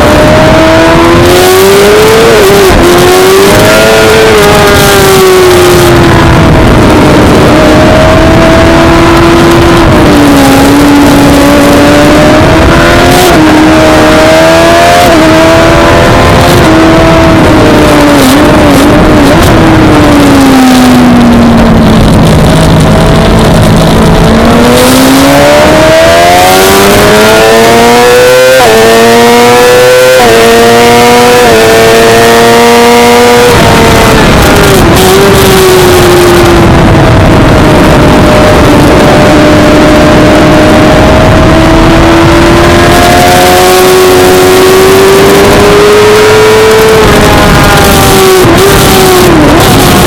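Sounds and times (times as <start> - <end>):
motorcycle engine revving: 0.0 - 50.0
wind and road noise: 0.0 - 50.0.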